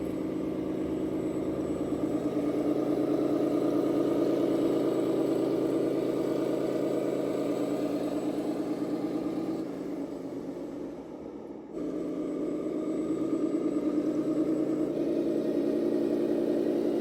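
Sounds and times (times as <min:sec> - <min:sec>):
model truck motor drone: 0:00.0 - 0:17.0.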